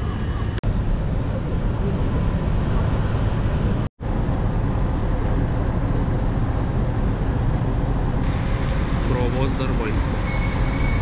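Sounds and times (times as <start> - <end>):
ferry engine rumble: 0.0 - 11.0.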